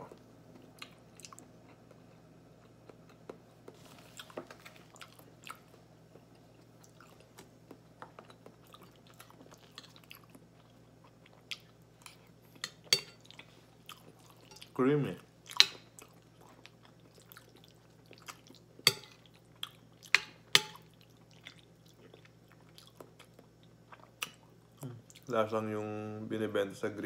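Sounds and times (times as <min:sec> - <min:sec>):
person chewing: 0:00.1 - 0:14.7, 0:15.4 - 0:25.3.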